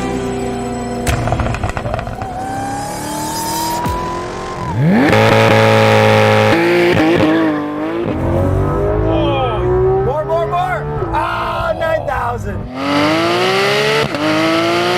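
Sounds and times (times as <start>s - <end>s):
car engine and exhaust revving: 0.0s - 14.9s.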